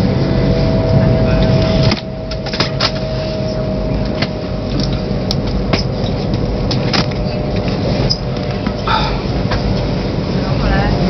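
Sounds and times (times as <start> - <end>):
faint hum: 0.0 - 11.0
train rumble inside carriage: 0.0 - 11.0.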